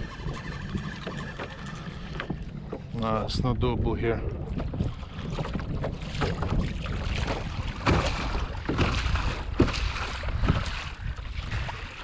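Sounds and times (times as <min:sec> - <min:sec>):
waves splashing against kayak: 0:00.0 - 0:12.0
wind buffeting microphone: 0:00.0 - 0:12.0.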